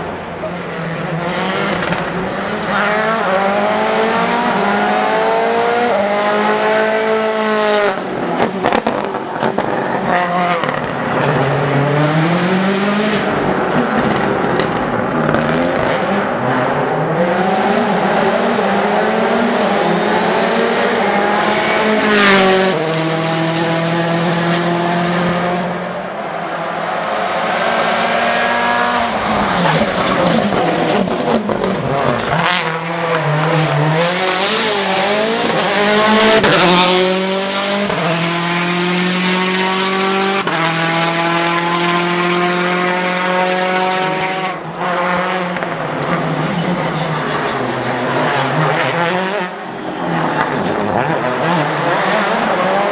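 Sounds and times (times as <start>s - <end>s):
rally car engine at full throttle: 0.0s - 52.9s.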